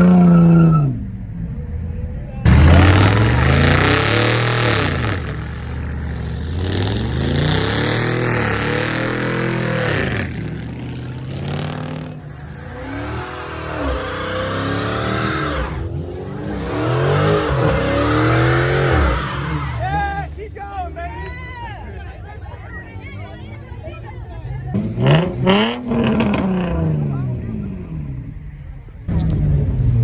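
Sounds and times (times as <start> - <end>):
car engine revving: 0.0 - 20.4, 24.6 - 30.0.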